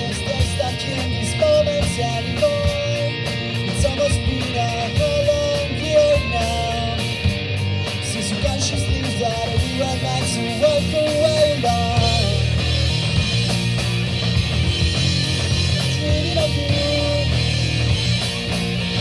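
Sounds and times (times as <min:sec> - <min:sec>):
drum kit: 0:00.0 - 0:19.0
electric bass: 0:00.0 - 0:19.0
electric guitars: 0:00.0 - 0:19.0
melodic lead line: 0:00.0 - 0:19.0.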